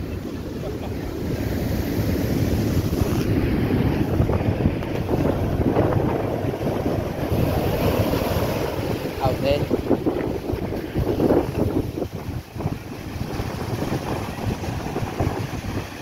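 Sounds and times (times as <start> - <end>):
storm surf breaking: 0.0 - 16.0
wind buffeting microphone: 0.0 - 16.0.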